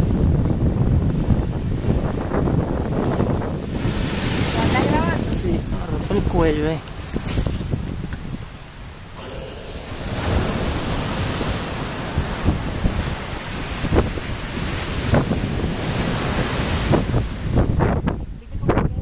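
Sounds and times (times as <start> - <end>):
surf washing on beach: 0.0 - 19.0
wind on microphone: 0.0 - 19.0.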